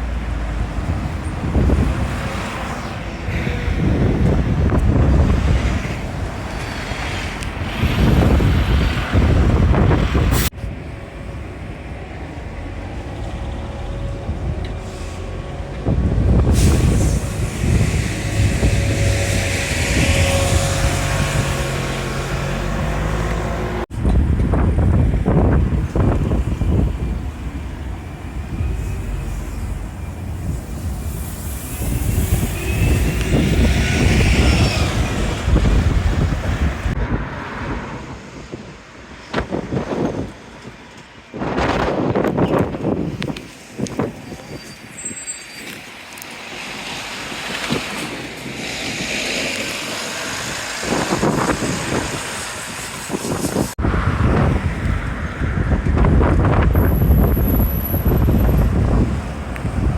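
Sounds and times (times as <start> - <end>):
wind buffeting microphone: 0.0 - 45.0, 46.5 - 59.9
bus passing with whine: 0.0 - 59.9.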